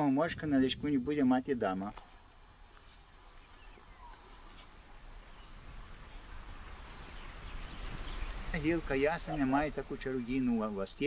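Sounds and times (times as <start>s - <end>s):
insects chirring in grass: 0.0s - 11.0s
low steady rumble: 0.0s - 11.0s.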